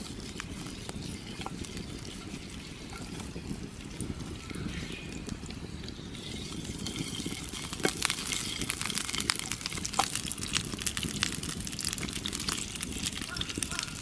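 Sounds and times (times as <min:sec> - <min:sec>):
firewood crackling and popping: 0:00.0 - 0:14.0
liquid sizzling in a frying pan: 0:00.0 - 0:14.0.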